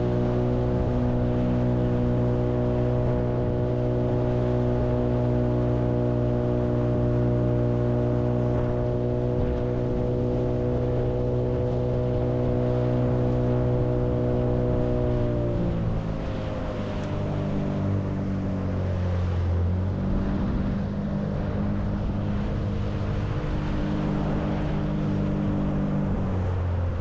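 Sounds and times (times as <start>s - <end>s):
boat motor droning: 0.0s - 27.0s.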